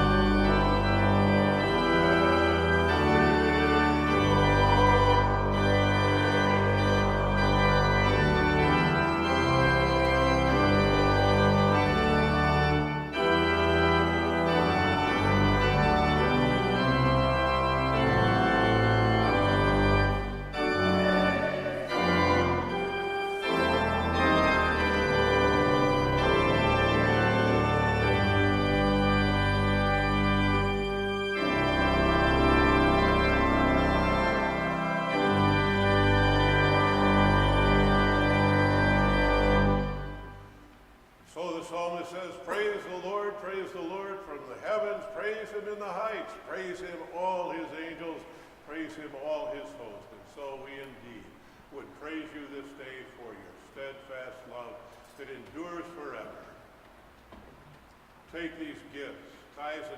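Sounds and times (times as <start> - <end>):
organ playing chords: 0.0 - 59.9.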